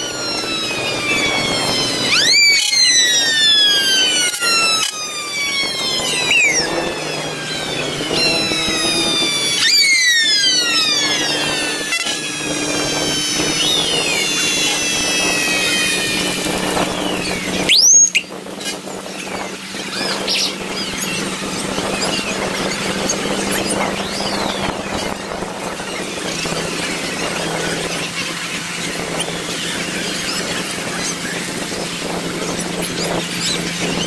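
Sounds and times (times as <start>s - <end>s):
engine hum: 0.0s - 34.0s
fire engine sirens wailing: 0.0s - 34.0s
siren whoop: 0.0s - 34.0s.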